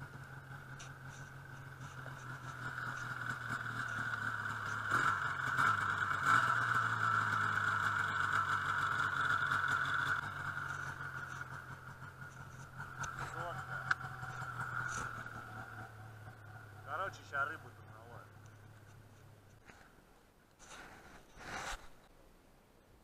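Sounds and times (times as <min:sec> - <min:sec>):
snowmobile engine running: 0:00.0 - 0:19.9.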